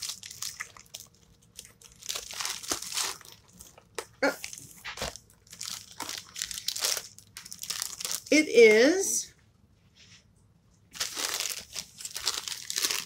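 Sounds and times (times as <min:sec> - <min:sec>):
plastic mailer crinkling: 0:00.0 - 0:08.4, 0:10.9 - 0:13.0.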